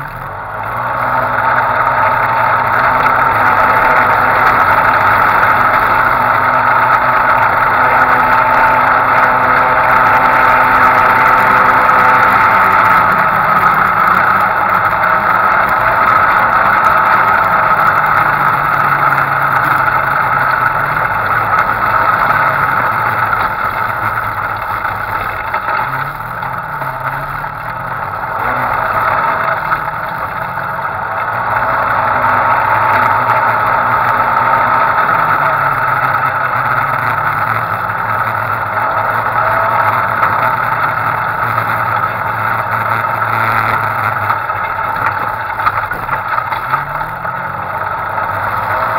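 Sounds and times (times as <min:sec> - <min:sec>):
off-road vehicle engine revving: 0:00.0 - 0:48.9.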